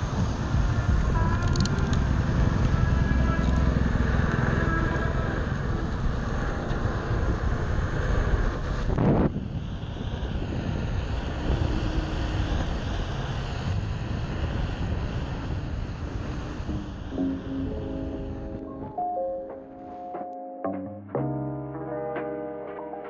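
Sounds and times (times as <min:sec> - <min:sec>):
wind on microphone: 0:00.0 - 0:19.0
road and traffic noise: 0:00.0 - 0:20.2.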